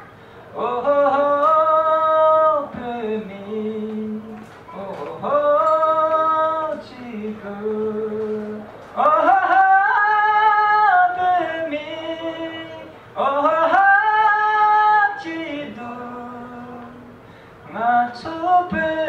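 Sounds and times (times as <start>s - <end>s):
man singing into microphone: 0.5s - 19.0s.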